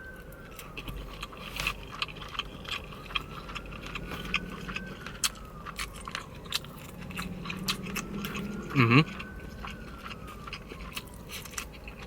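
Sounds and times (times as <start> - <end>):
chewing with wet mouth clicks: 0.1 - 12.0.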